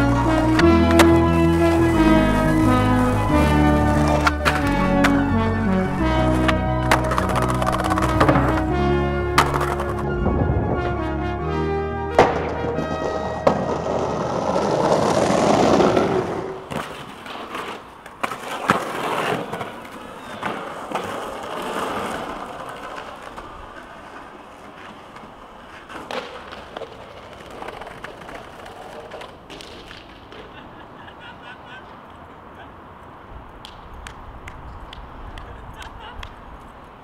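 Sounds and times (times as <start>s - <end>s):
skateboard tail clacking: 0.0s - 10.3s, 12.1s - 37.0s
skateboard wheels rolling on concrete: 0.0s - 37.0s.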